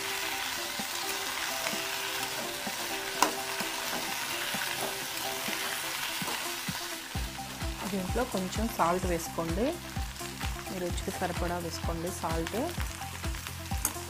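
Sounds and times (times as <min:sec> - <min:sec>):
okra sizzling in hot oil: 0:00.0 - 0:14.0.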